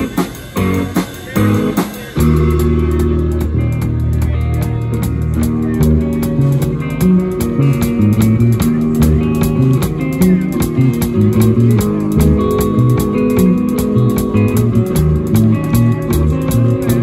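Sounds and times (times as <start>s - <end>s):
drum kit: 0.0s - 17.0s
electric bass: 0.0s - 17.0s
electric guitar: 0.0s - 17.0s.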